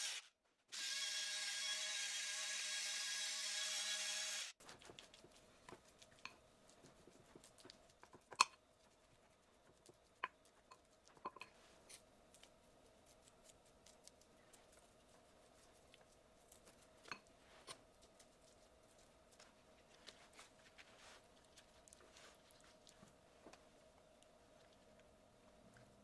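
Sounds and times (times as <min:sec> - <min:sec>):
faint steady hum: 0:04.6 - 0:26.0.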